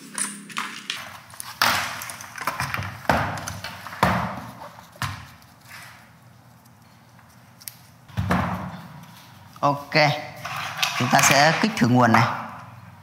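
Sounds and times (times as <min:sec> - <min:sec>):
cables rustling: 0:00.0 - 0:12.2.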